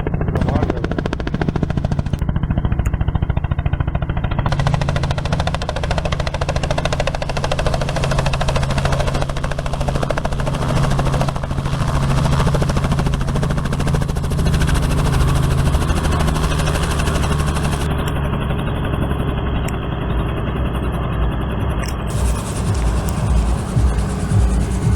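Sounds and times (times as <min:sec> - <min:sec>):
helicopter engine whine: 0:00.0 - 0:24.9
rotor blades chopping: 0:00.3 - 0:24.9.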